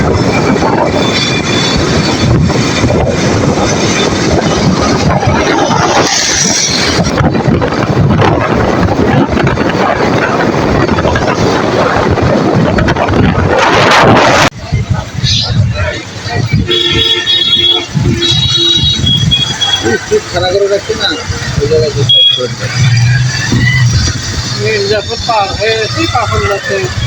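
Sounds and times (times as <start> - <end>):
road vehicle running rumble: 0.0 - 27.0
wind buffeting microphone: 0.0 - 27.0.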